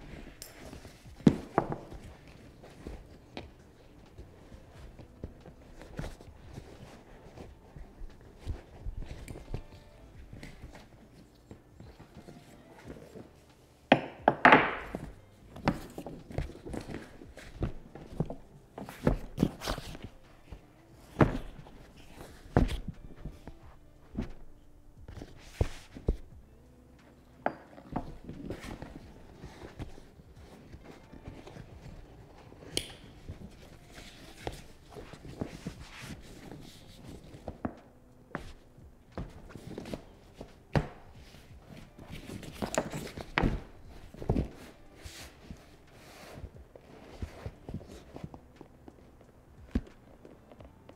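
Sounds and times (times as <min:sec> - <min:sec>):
thuds and taps of bag handling: 0:00.0 - 0:13.3, 0:13.9 - 0:26.5, 0:27.4 - 0:50.9.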